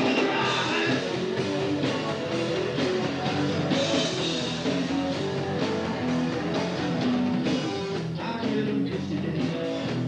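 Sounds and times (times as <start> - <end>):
bass guitar: 0.0 - 10.0
drum kit beat: 0.0 - 10.0
electric guitar: 0.0 - 10.0.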